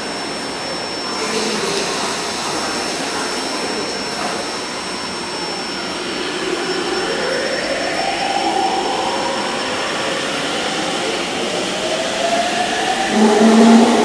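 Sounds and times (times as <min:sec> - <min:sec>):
electric train running: 0:00.0 - 0:14.0
train motor whine rising: 0:00.6 - 0:14.0.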